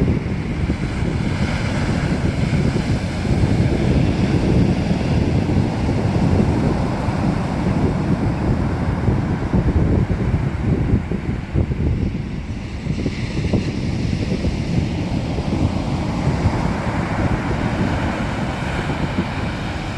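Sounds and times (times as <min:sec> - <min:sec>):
surf breaking on shore: 0:00.0 - 0:19.9
wind buffeting microphone: 0:00.0 - 0:19.9.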